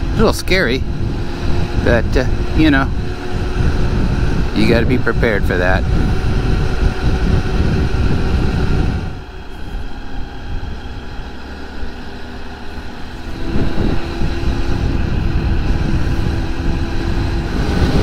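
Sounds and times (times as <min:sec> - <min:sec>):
small motorcycle engine running: 0:00.0 - 0:18.0
wind rushing over microphone: 0:00.0 - 0:18.0.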